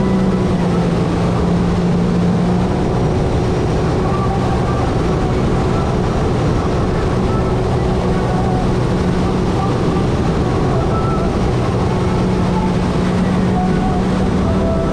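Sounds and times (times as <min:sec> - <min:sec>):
water and air rushing: 0:00.0 - 0:14.9
watercraft engine running: 0:00.0 - 0:14.9.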